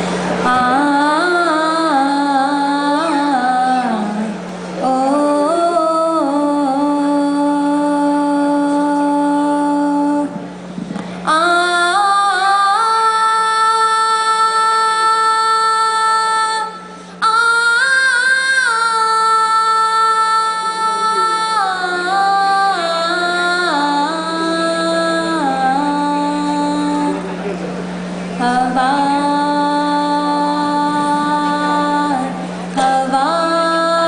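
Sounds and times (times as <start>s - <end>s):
steady low hum: 0.0s - 34.0s
woman singing into microphone: 0.4s - 27.4s, 28.4s - 34.0s.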